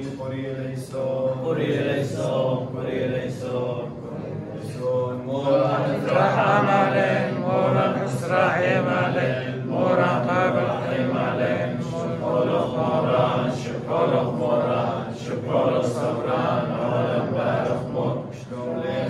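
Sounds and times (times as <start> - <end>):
men chanting a prayer: 0.0 - 19.0.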